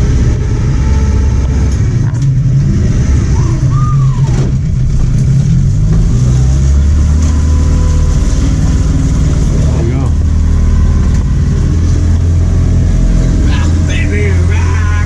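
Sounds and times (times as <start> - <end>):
rising and falling tone: 0.0 - 13.9
barge engine droning: 0.0 - 15.0.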